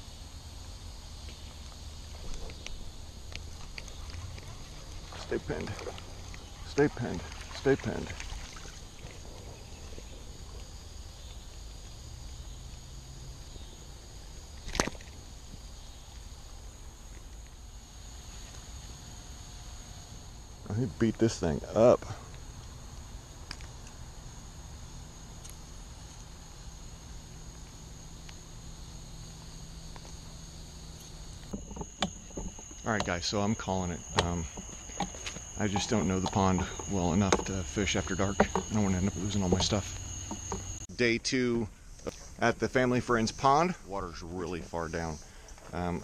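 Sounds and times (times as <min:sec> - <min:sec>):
high-pitched hum: 0:00.0 - 0:45.2
insects chirring: 0:00.0 - 0:46.0.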